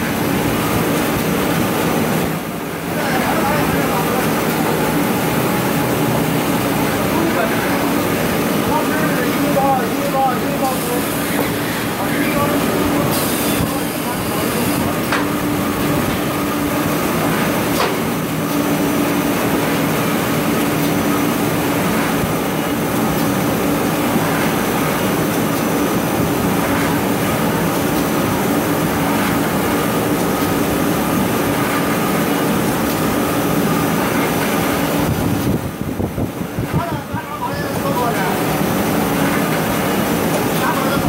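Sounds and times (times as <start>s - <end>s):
paper cutting machine running: 0.0s - 41.0s.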